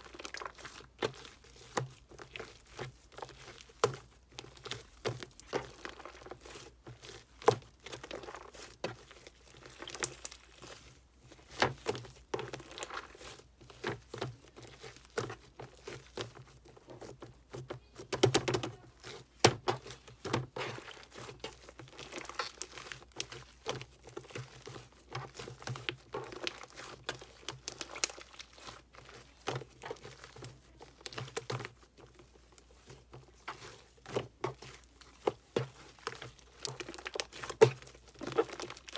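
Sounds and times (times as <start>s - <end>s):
slime squishing and crackling: 0.0s - 38.9s.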